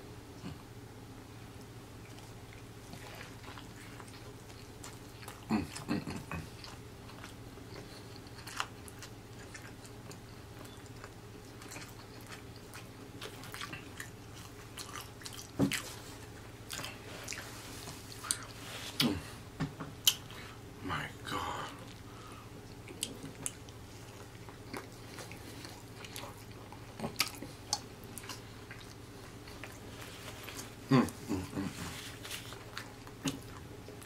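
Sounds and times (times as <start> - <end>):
faint low hum: 0.0 - 34.0
chewing with wet mouth clicks: 1.6 - 19.1, 20.0 - 20.4, 21.8 - 31.6, 32.2 - 34.0.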